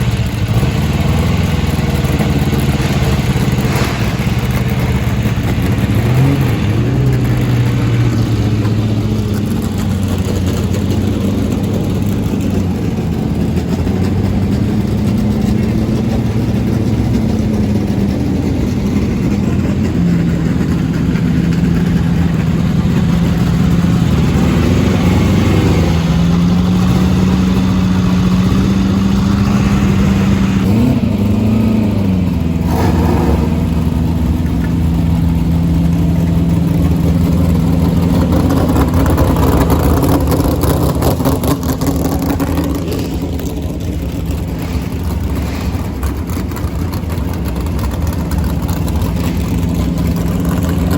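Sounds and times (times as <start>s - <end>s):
racing car engine running: 0.0s - 50.9s.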